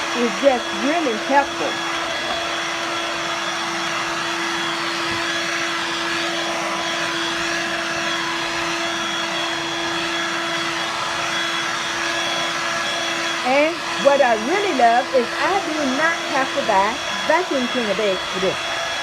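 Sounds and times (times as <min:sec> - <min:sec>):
stick vacuum running: 0:00.0 - 0:19.0.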